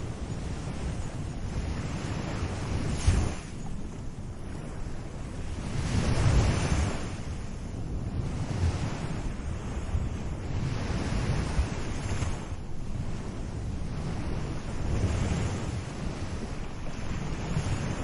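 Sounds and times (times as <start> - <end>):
small ocean waves washing onto beach: 0.0 - 18.0.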